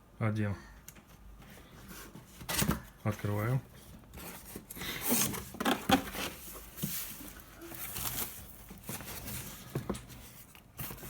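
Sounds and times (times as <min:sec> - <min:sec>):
cardboard packaging rustling: 0:01.8 - 0:11.0.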